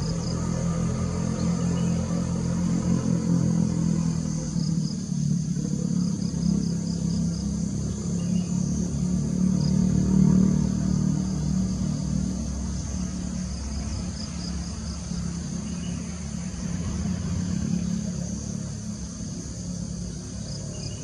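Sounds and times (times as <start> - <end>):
distant vehicle engine rumble: 0.0 - 21.0
insects droning: 0.0 - 21.0.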